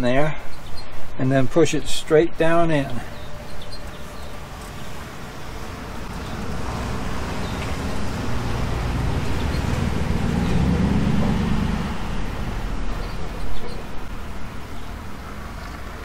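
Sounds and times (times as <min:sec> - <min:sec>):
vehicle passing by: 0:03.0 - 0:16.0.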